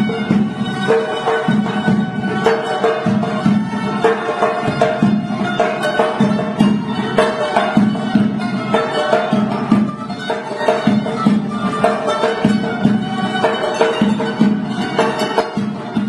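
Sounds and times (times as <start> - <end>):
melodic folk instruments: 0.0 - 16.0
steady percussion beat: 0.0 - 16.0.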